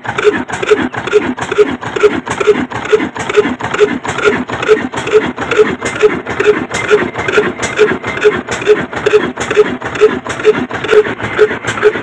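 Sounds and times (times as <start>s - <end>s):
stationary diesel engine running: 0.0s - 12.0s.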